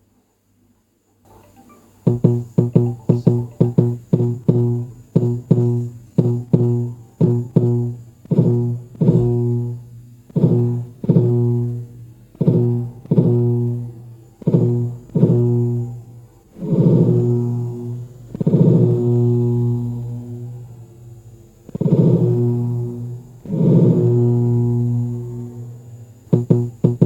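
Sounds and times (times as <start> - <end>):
phone vibration motor buzzing: 1.5 - 27.0.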